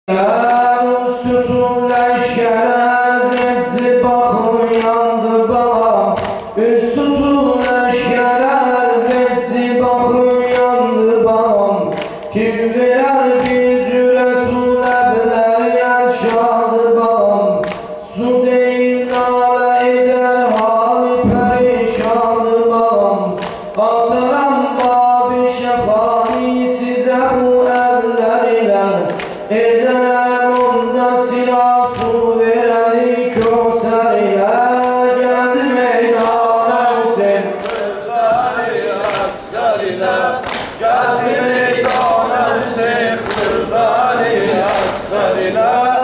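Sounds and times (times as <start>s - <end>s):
man singing unaccompanied elegy: 0.1s - 38.6s.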